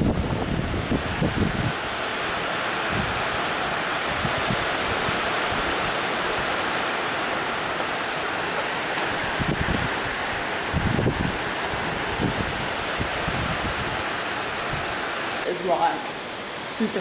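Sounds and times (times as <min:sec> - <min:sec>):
wind buffeting microphone: 0:00.0 - 0:15.5
heavy rain pouring: 0:00.0 - 0:17.0.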